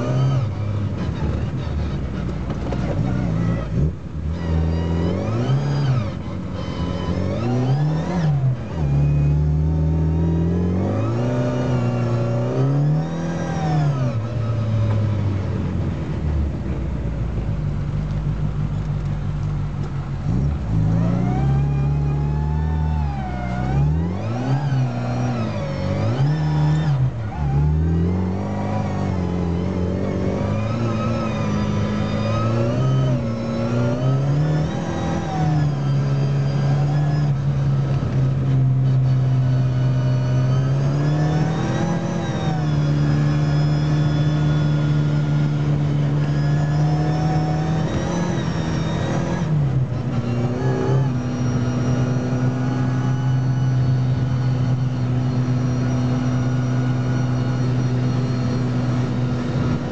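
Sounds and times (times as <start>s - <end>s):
car engine accelerating: 0.0s - 59.9s
tyre and road noise: 0.0s - 59.9s.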